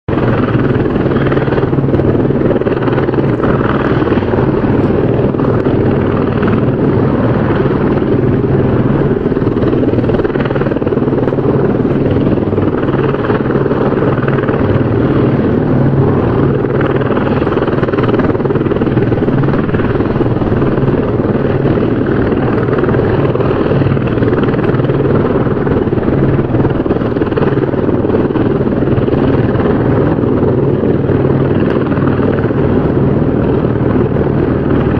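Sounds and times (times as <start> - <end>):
helicopter rotor and engine drone: 0.0 - 34.9.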